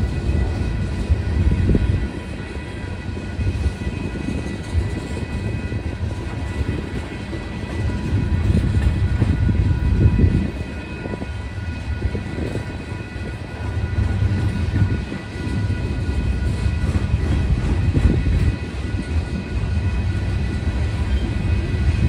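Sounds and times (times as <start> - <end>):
crossing warning bell ringing: 0.0 - 22.0
train wheels rumbling on rails: 0.0 - 22.0.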